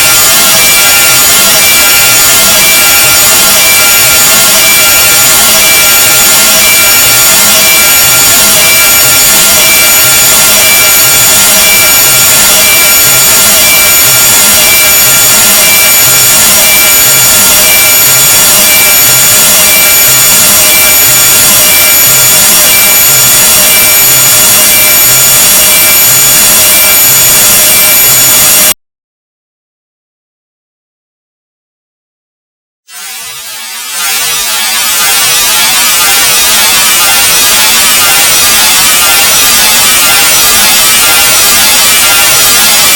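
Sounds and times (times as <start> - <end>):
harsh hiss with shrill tones: 0.0 - 28.8, 32.9 - 42.9.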